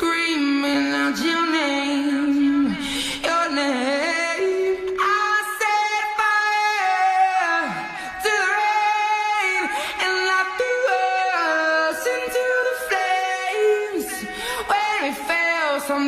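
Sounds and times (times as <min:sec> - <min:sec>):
high voice singing a ballad: 0:00.0 - 0:16.0.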